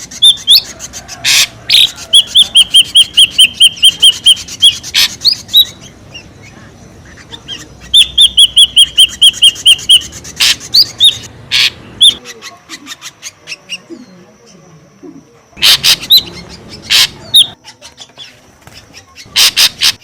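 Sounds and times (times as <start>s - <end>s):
harsh bird call: 0.0s - 14.2s, 15.6s - 20.0s.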